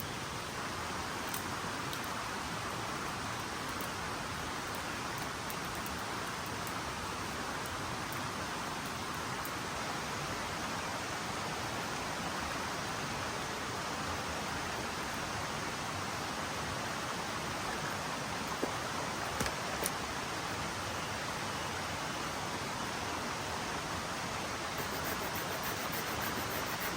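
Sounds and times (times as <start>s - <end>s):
rain falling in forest: 0.0s - 26.9s.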